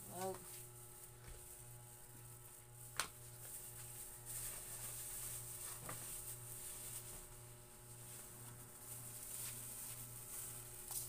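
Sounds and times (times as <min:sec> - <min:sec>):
low steady hum: 0:00.0 - 0:11.0
plastic bag crinkling: 0:00.1 - 0:11.0.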